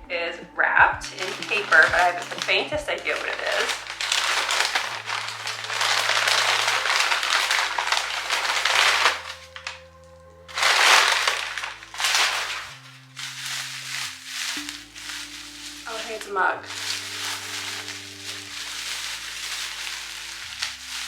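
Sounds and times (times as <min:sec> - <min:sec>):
packing paper crinkling: 0:01.0 - 0:21.0.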